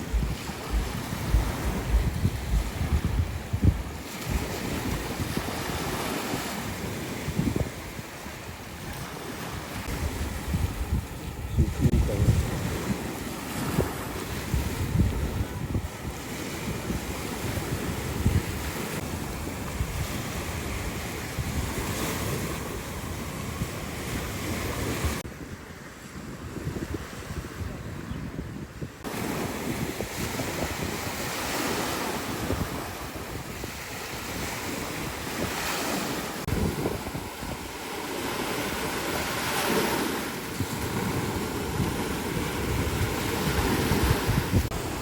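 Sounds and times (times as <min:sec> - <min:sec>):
sea waves rushing: 0:00.0 - 0:27.8, 0:29.0 - 0:45.0
wind buffeting microphone: 0:00.0 - 0:45.0.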